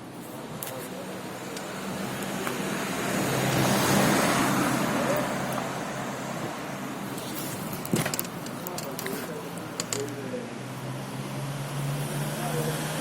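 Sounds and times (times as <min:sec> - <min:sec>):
motor vehicle passing: 0:00.8 - 0:13.0.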